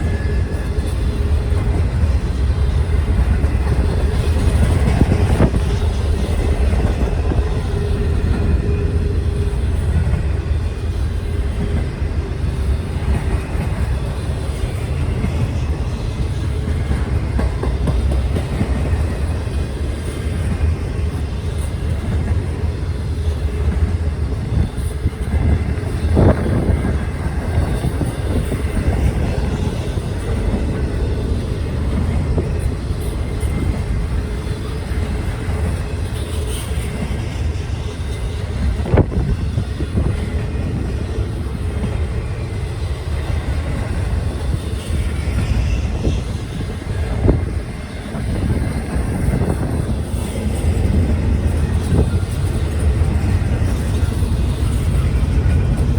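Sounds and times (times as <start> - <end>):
train rumbling past: 0.0 - 55.9.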